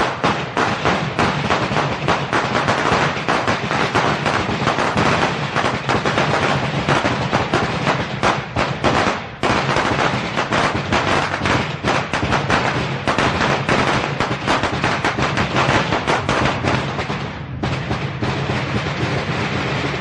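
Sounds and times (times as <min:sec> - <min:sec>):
firecrackers crackling: 0:00.0 - 0:20.0.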